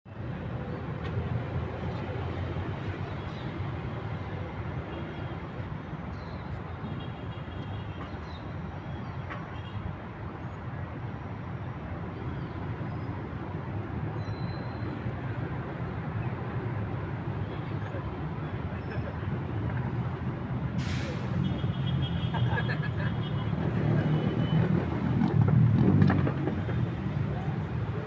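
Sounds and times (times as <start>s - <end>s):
low rumble of city traffic: 0.1s - 28.0s.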